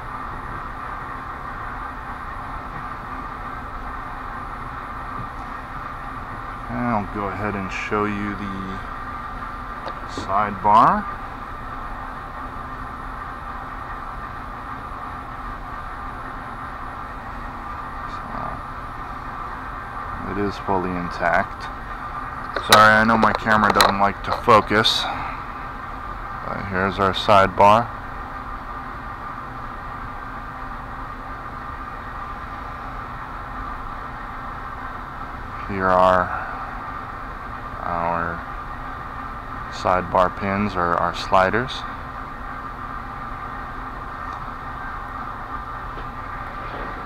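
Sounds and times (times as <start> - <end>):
faint constant whine: 0.0 - 47.0
steady hum and hiss: 0.0 - 47.0.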